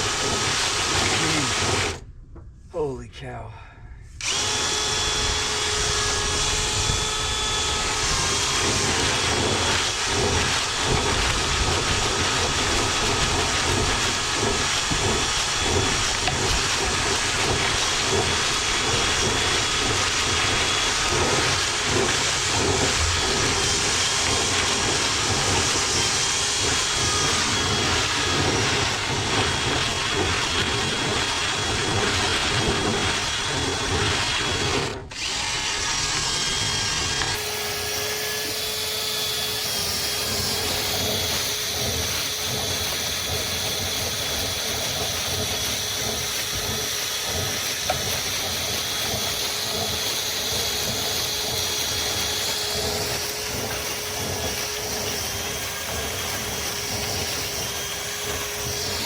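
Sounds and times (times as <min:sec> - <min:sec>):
power drill with rotary brush: 0:00.0 - 0:02.0, 0:04.2 - 0:59.0.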